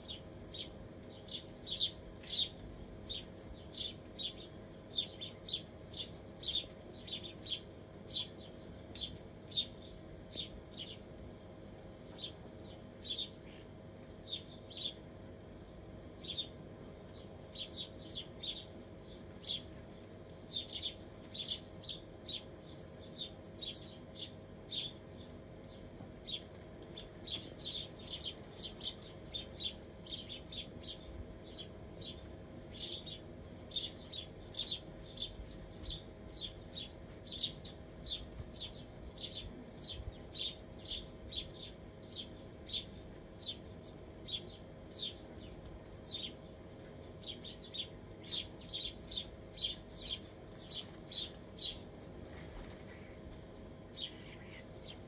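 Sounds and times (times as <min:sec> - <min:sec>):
sparrows chirping: 0:00.0 - 0:55.0.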